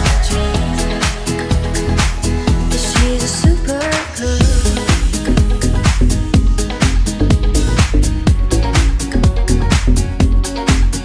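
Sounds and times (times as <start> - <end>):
kick-drum beat: 0.0 - 11.0
upbeat dance-pop music: 0.0 - 11.0.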